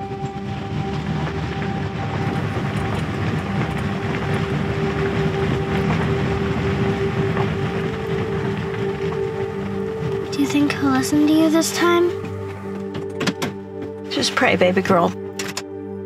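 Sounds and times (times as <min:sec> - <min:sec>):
road and engine noise: 0:00.0 - 0:14.6
sustained musical drone: 0:00.0 - 0:16.0.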